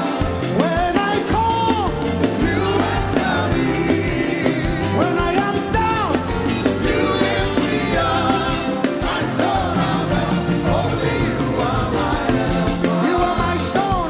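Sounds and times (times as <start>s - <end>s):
bass: 0.0s - 14.0s
gospel worship band with singing: 0.0s - 14.0s
steady drum beat: 0.0s - 14.0s.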